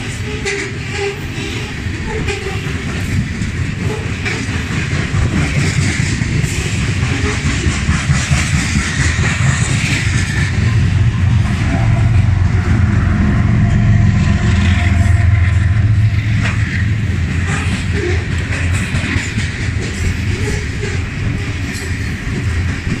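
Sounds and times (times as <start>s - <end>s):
diesel locomotive engine drone: 0.0s - 23.0s
freight cars rumbling on rails: 0.0s - 23.0s.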